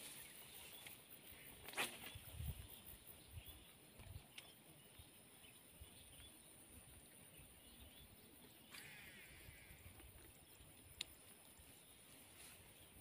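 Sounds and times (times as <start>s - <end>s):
faint chirps: 0.0s - 13.0s
high insect drone: 0.0s - 13.0s.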